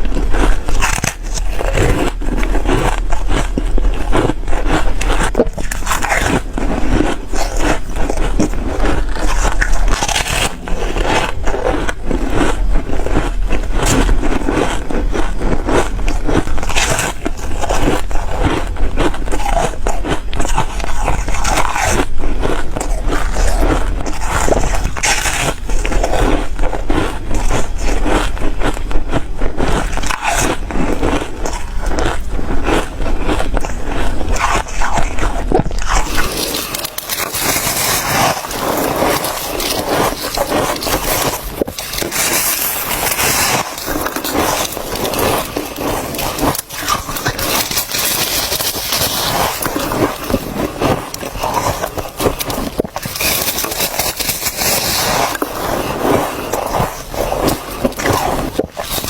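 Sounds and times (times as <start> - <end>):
ice being crunched: 0.0 - 59.0.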